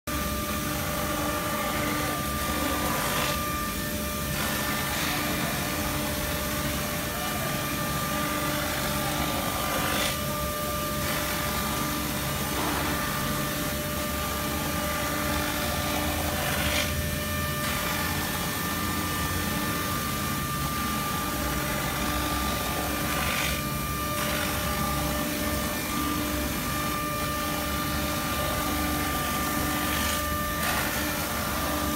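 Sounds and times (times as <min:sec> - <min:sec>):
router spindle whine and hum: 0:00.1 - 0:31.9
cutter rasping into foam: 0:00.7 - 0:03.5, 0:04.2 - 0:13.6, 0:14.4 - 0:19.2, 0:20.7 - 0:31.9.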